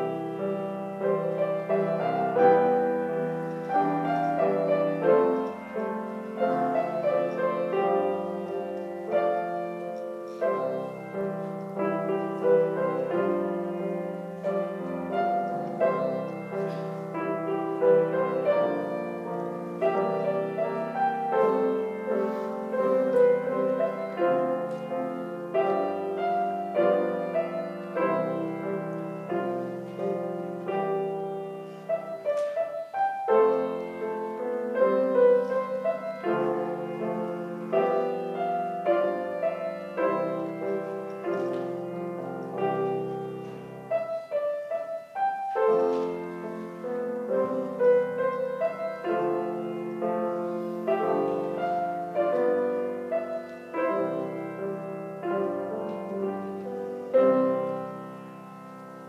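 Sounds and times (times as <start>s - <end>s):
piano duet: 0.0s - 59.0s.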